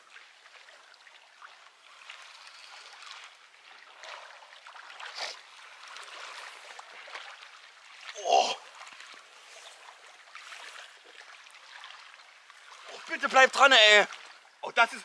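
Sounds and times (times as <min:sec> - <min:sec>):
flowing water hiss: 0:00.0 - 0:15.0.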